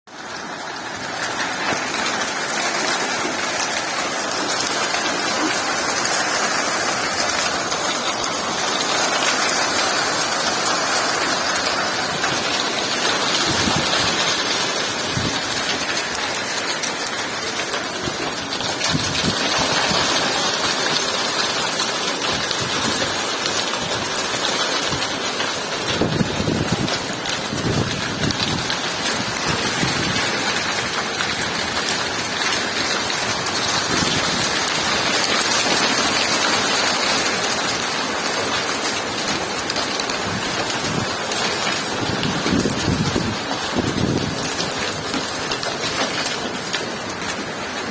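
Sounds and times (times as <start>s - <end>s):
hail and rain clattering: 0.1s - 47.9s.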